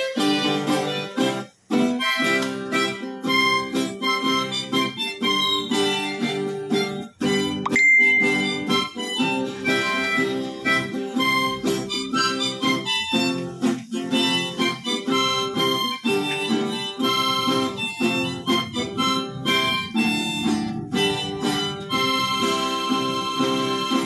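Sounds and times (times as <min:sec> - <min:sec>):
acoustic guitar strumming: 0:00.0 - 0:24.0
harmonica chords: 0:00.0 - 0:24.0.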